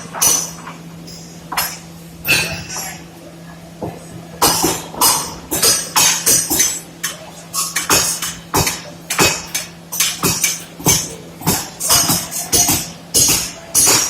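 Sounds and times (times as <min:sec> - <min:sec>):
sharp metal-on-metal clanks: 0:00.0 - 0:03.0, 0:04.4 - 0:14.0
workshop machinery hum: 0:00.0 - 0:14.0.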